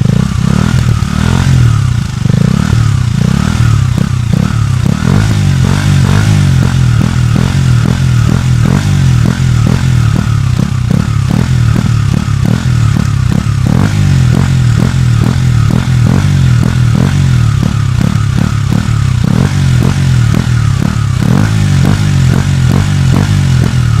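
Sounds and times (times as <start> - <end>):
motorcycle engine running steadily: 0.0 - 24.0.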